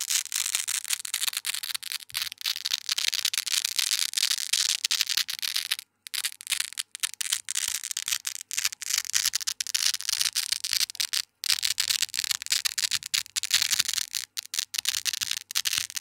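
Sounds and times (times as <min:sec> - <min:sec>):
velcro peeling crackle: 0:00.0 - 0:16.0.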